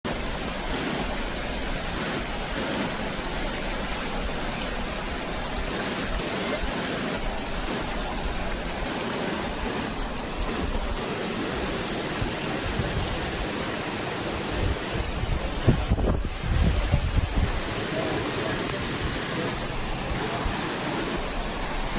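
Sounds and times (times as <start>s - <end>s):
floodwater rushing: 0.0s - 21.9s.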